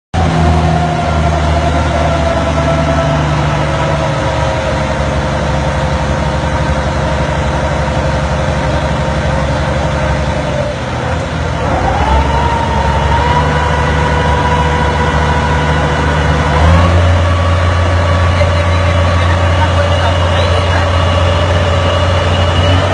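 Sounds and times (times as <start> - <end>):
generator engine hum: 0.2 - 22.9
generator whine: 0.2 - 22.9.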